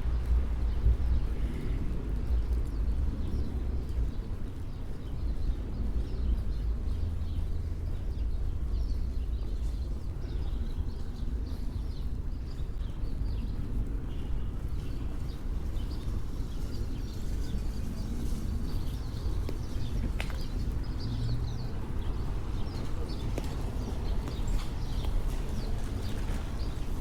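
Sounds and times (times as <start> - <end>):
low rumble of traffic: 0.0 - 27.0
small birds chirping: 5.0 - 27.0.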